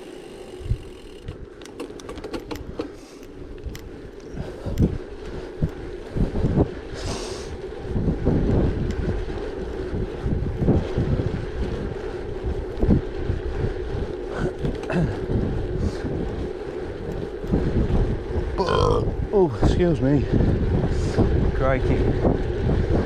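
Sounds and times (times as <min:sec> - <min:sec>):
bike tyres rolling on gravel: 0:00.0 - 0:23.0
wind buffeting microphone: 0:00.5 - 0:23.0.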